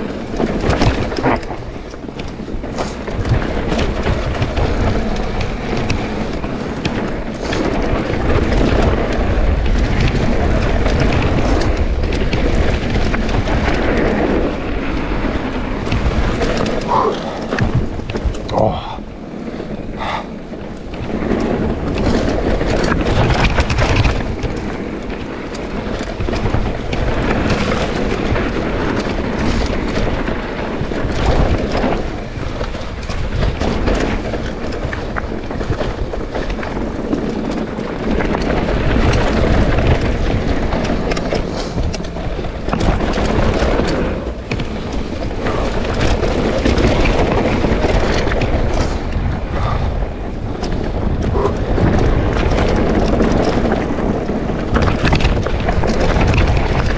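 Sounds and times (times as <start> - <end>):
bike rattling over bumps: 0.0 - 56.9
wind rumbling on microphone: 0.0 - 56.9.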